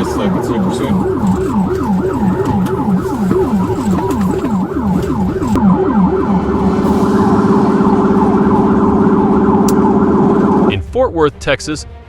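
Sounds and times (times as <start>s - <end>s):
police siren: 0.0s - 10.8s.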